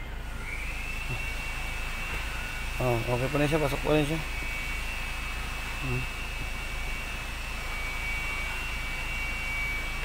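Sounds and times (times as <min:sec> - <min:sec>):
thin high whine: 0:00.0 - 0:10.0.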